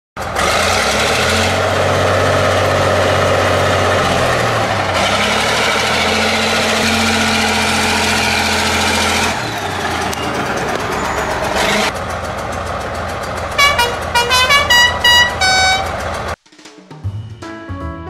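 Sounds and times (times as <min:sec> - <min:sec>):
heavy engine idling: 0:00.2 - 0:16.4.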